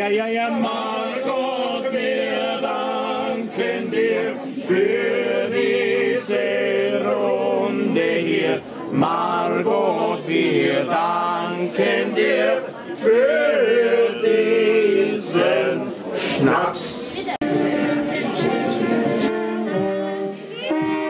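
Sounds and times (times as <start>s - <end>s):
men singing unaccompanied: 0.0s - 20.2s.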